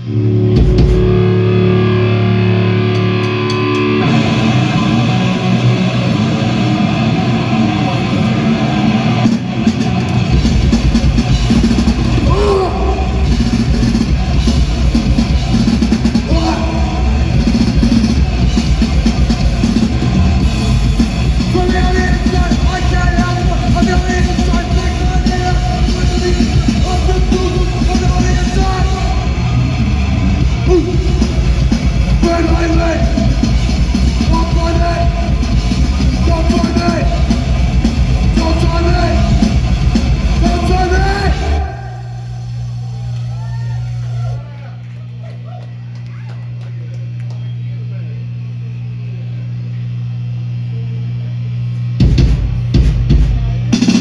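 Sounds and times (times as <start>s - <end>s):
distorted electric guitar: 0.0s - 44.4s
heavy bass: 0.0s - 45.5s, 46.4s - 54.0s
drums: 0.0s - 54.0s.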